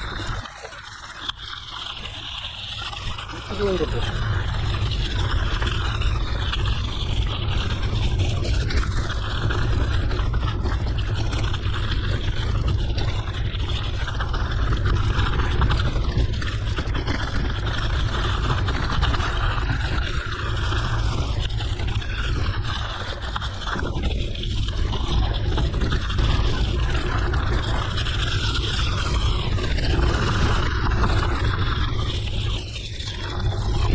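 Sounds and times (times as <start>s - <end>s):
wind on microphone: 0.0s - 33.9s.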